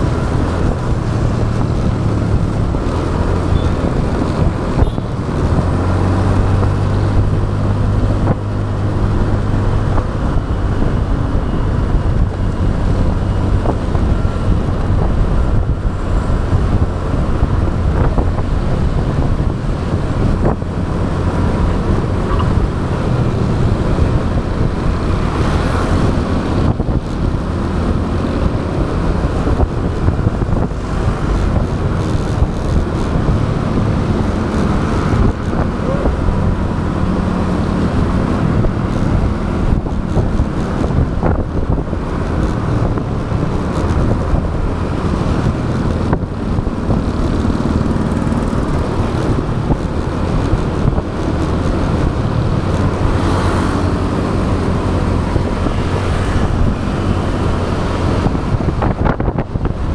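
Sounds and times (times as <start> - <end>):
motorbike engine hum: 0.0 - 59.9
road noise: 0.0 - 59.9
wind rushing over microphone: 0.0 - 59.9.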